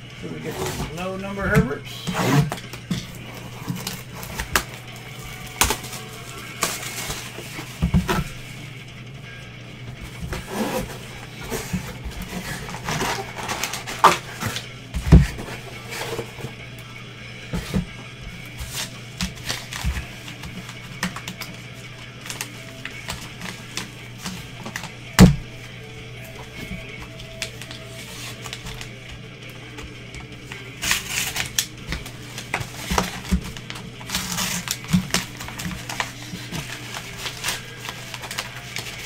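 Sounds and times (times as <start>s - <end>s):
box and envelope handling rustles: 0.1s - 8.7s, 9.8s - 16.6s, 17.4s - 39.0s.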